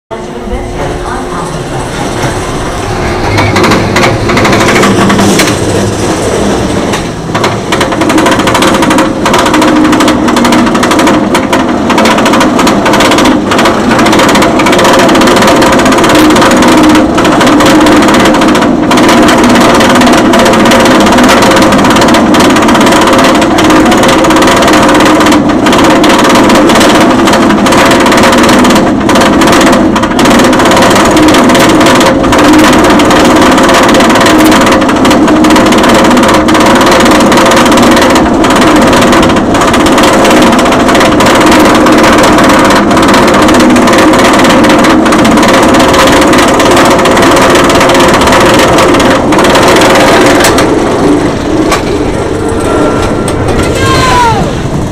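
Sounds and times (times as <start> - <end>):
roller coaster chain clanking: 0.1 - 54.9
chain drive humming: 0.2 - 54.9.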